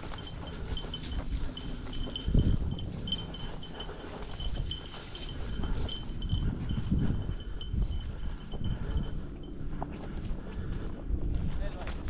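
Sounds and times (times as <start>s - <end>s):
dog bell jingling: 0.0s - 9.8s
footsteps on grass: 0.0s - 12.0s.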